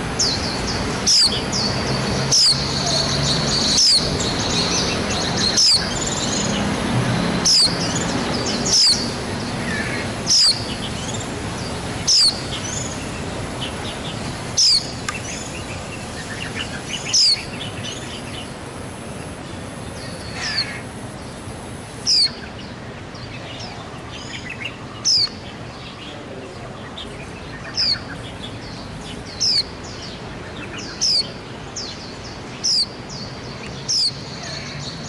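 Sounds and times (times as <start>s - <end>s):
soft twitter of birds: 0.0s - 35.0s.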